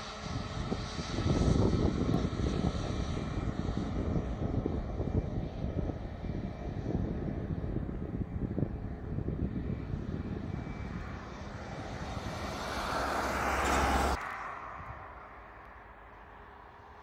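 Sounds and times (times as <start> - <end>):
distant jet engine noise: 0.0 - 17.0
jet engines rumbling and whining: 0.0 - 17.0.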